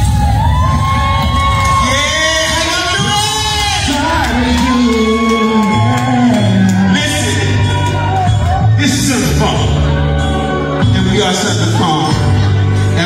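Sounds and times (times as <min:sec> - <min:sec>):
amplified backing music: 0:00.0 - 0:13.0.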